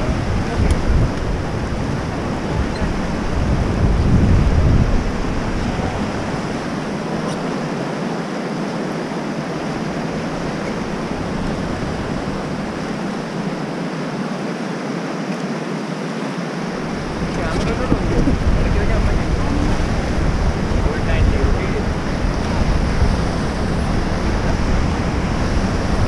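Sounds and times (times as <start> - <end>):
wind rumble on microphone: 0.0 - 14.6, 16.6 - 26.0
river rapids rushing: 0.0 - 26.0.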